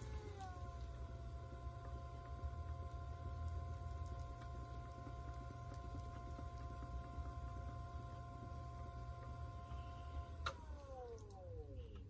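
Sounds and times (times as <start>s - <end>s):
pottery wheel motor whine: 0.0s - 12.0s.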